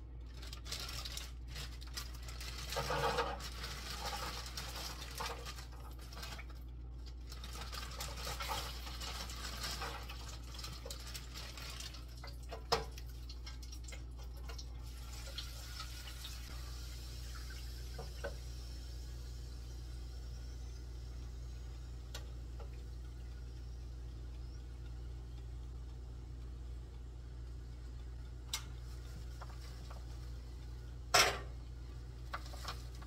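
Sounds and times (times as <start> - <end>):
low steady hum: 0.0 - 33.0
fries sizzling in hot oil: 0.3 - 25.1, 27.3 - 33.0.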